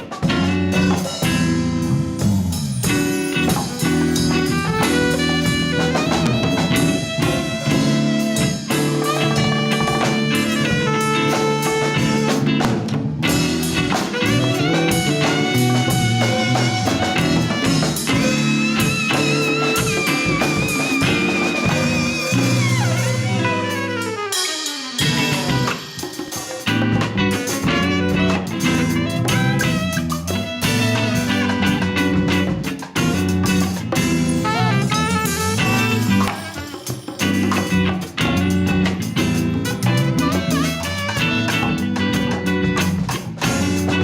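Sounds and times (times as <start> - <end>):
bass: 0.0 - 44.0
drum kit: 0.0 - 44.0
guitar melody with wavering notes: 0.0 - 44.0.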